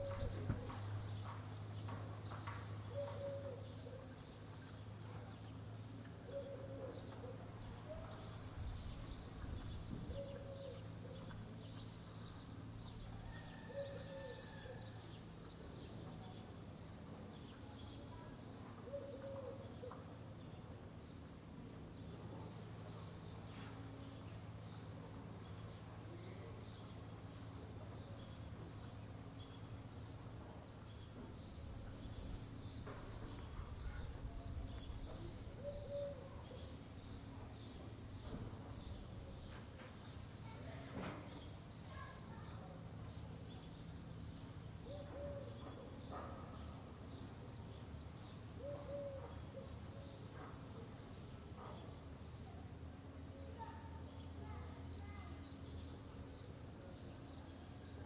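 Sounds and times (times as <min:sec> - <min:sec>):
faint low hum: 0:00.0 - 0:58.0
small birds chirping: 0:00.0 - 0:58.0.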